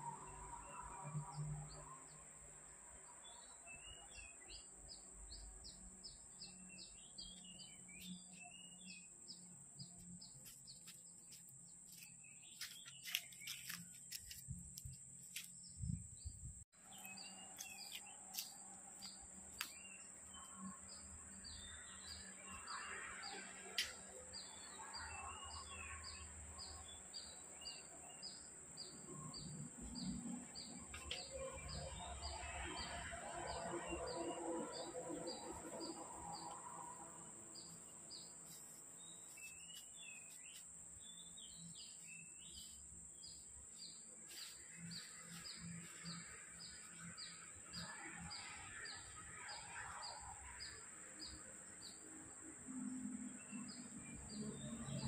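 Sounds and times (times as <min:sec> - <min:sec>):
birds chirping: 0:03.2 - 0:52.0.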